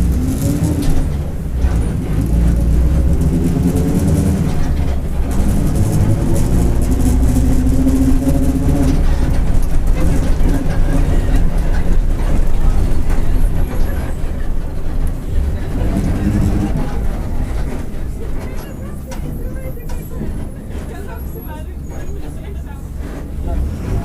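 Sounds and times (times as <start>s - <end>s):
bus engine drone: 0.0s - 24.0s
driveshaft growling: 0.0s - 24.0s.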